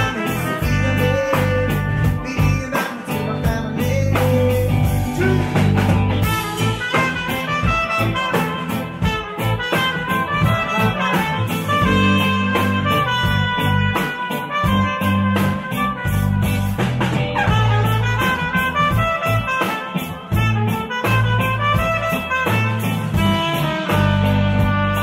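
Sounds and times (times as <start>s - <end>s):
trumpet solo: 0.0s - 3.0s, 4.4s - 25.0s
drum kit beat: 0.0s - 25.0s
electric bass: 0.0s - 25.0s
electric guitar: 0.0s - 25.0s.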